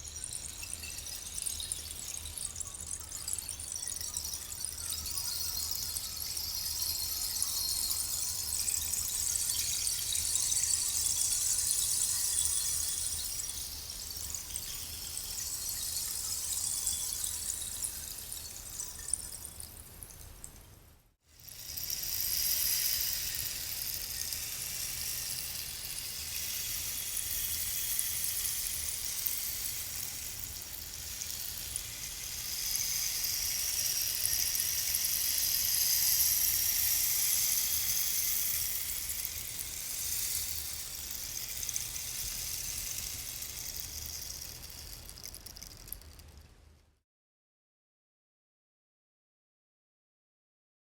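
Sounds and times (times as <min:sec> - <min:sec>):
rainstick trickling: 0:00.0 - 0:46.6.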